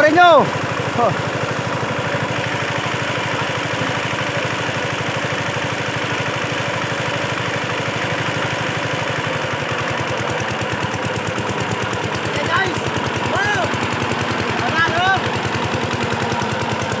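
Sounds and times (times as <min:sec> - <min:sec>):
hand tractor engine chugging: 0:00.0 - 0:17.0.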